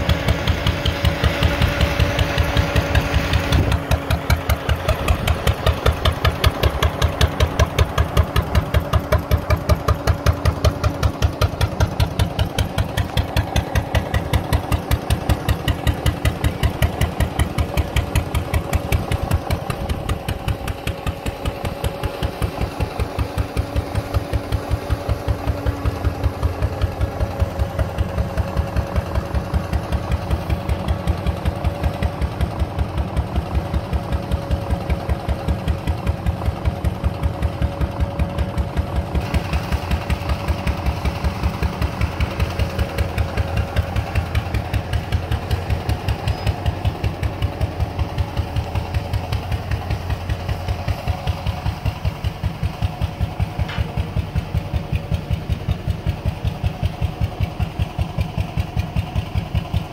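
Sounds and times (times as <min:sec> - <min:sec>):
gas engine running steadily: 0:00.0 - 0:59.9.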